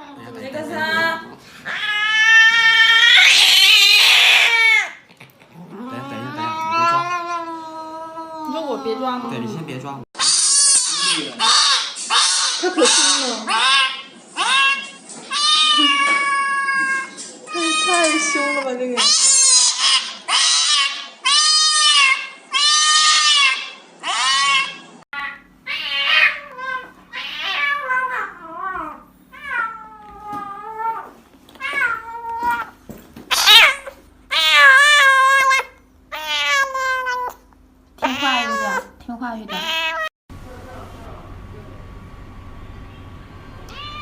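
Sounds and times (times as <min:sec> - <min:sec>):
cat yowling: 0:01.6 - 0:05.0, 0:05.7 - 0:09.5, 0:10.2 - 0:37.4, 0:38.0 - 0:38.9, 0:39.5 - 0:40.1, 0:43.7 - 0:44.0.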